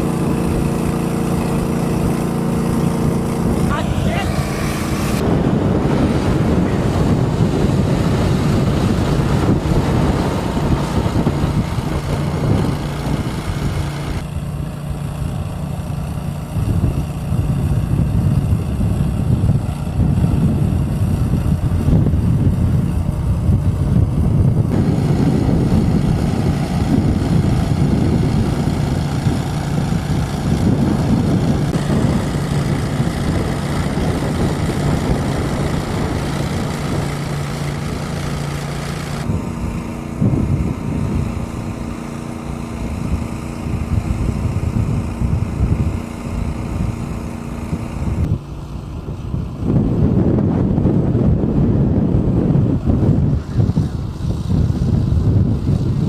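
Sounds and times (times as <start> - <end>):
loud low engine rumble: 0.0 - 56.0.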